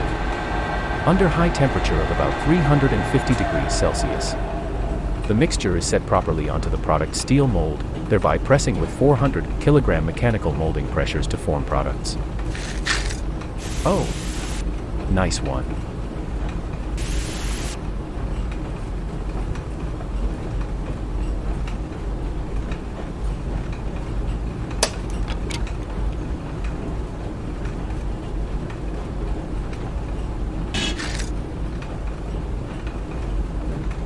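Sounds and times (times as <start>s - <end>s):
machinery humming and rumbling: 0.0s - 34.0s.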